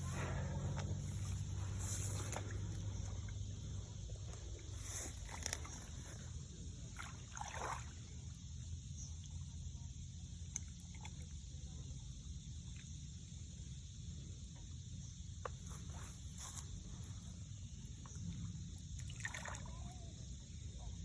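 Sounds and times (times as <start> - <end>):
steady low hum: 0.0 - 21.0
water sloshing and trickling: 0.0 - 21.0.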